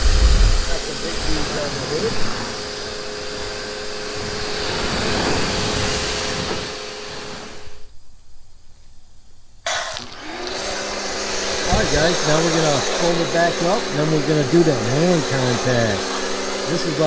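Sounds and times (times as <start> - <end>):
pressure washer motor whine: 0.0 - 7.8, 9.7 - 17.0
pressure washer spraying water: 0.0 - 7.8, 9.7 - 17.0.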